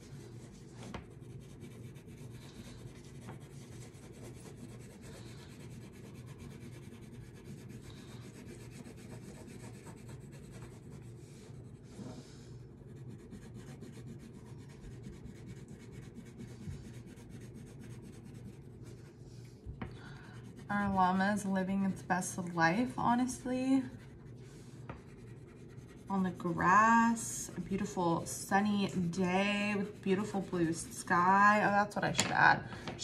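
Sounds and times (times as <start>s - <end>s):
wax crayon scratching on paper: 0.0s - 19.2s, 20.3s - 31.7s.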